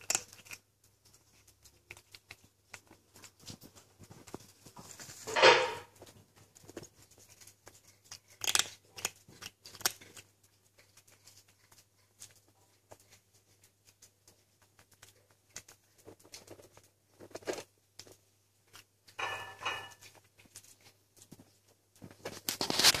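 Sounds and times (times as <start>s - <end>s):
kitten crunching dry kibble: 0.0s - 23.0s.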